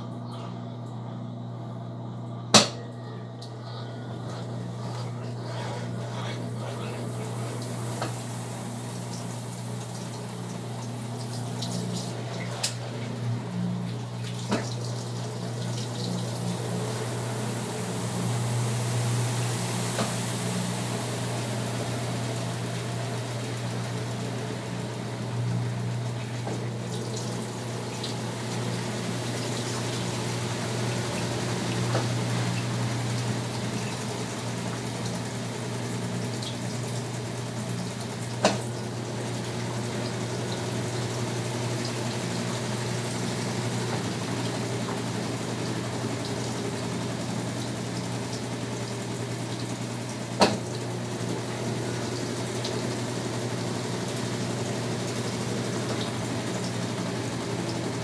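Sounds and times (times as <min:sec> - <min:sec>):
electric pump hum: 0:00.0 - 0:58.0
water running in washing machine: 0:00.0 - 0:58.0.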